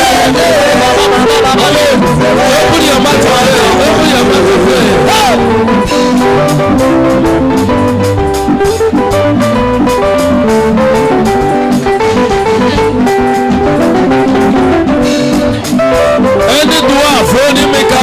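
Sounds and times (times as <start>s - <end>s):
drum kit beat: 0.0s - 18.0s
electric guitar lines: 0.0s - 18.0s
live band music: 0.0s - 18.0s.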